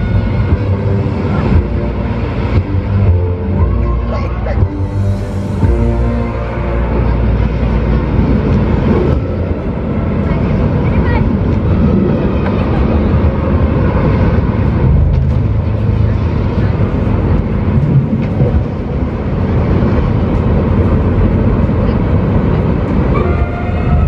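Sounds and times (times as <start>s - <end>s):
deep rumbling sound effects: 0.0s - 24.0s.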